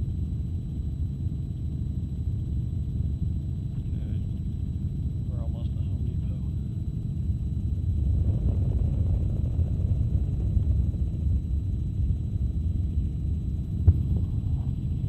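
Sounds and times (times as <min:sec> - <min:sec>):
helicopter rotor and engine rumble: 0:00.0 - 0:15.0.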